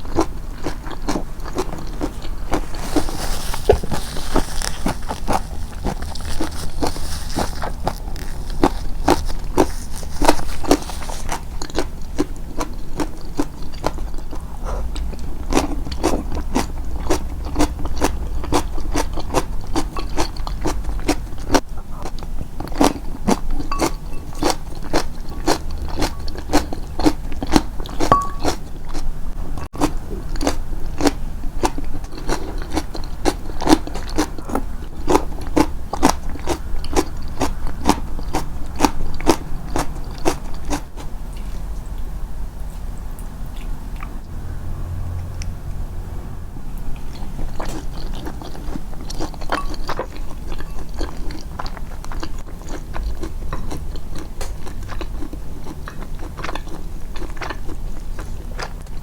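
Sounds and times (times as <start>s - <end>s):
crunchy chewing: 0.0s - 42.9s, 46.9s - 59.0s.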